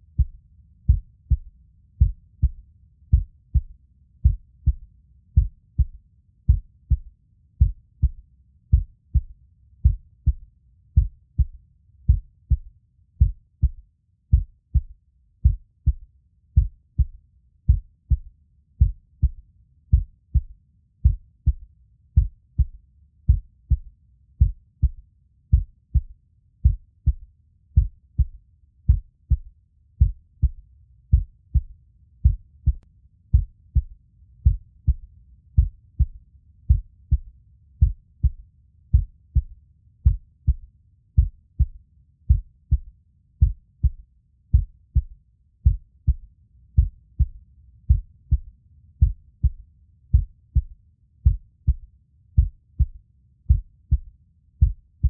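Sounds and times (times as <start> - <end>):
faint low rumble: 0.0 - 55.0
heartbeat thumps: 0.1 - 55.0.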